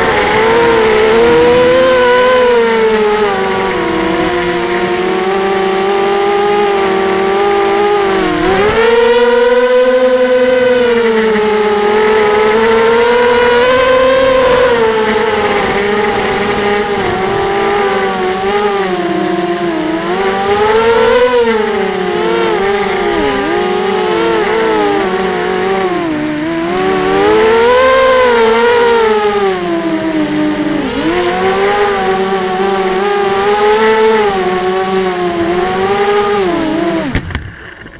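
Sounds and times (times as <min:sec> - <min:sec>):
drone motors and propellers whining: 0:00.0 - 0:37.9.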